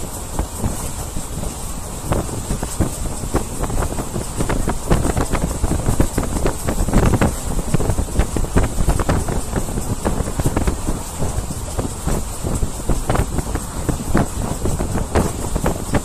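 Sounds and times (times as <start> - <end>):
train rumbling on track: 0.0 - 16.0
wind buffeting microphone: 0.0 - 16.0.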